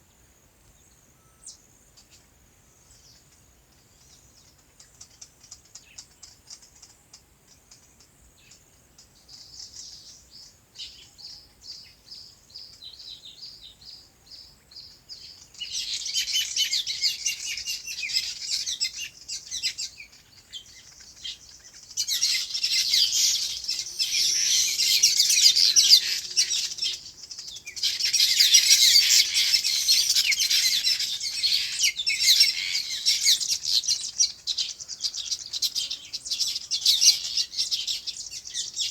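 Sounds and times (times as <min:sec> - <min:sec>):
small birds chirping: 0:00.7 - 0:38.9.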